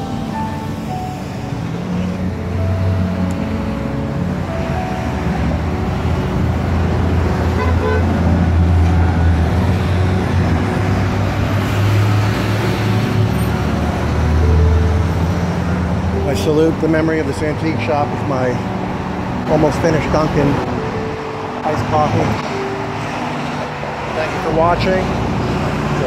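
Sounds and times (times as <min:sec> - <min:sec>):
highway traffic rumble: 0:00.0 - 0:26.0.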